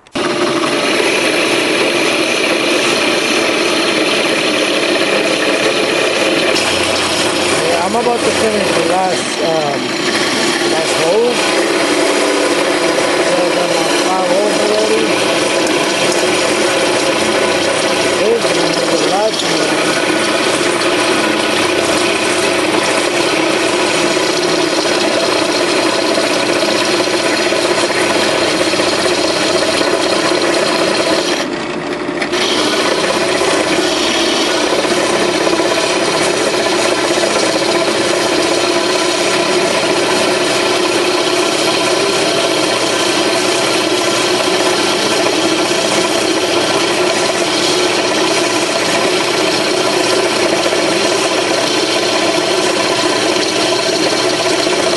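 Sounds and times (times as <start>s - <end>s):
power drill cutting metal: 0.0s - 54.9s.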